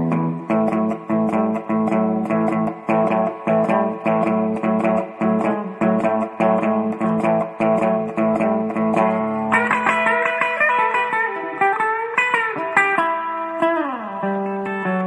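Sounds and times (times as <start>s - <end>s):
plucked guitar notes: 0.0s - 15.0s.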